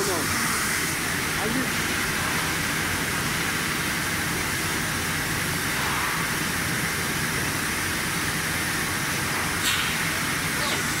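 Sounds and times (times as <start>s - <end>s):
constant machine hiss: 0.0s - 11.0s
low machine hum: 0.0s - 11.0s.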